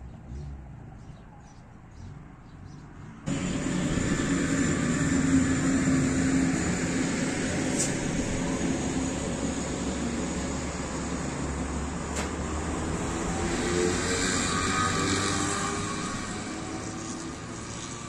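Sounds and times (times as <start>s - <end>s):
mechanical drone with low hum: 3.2s - 18.0s.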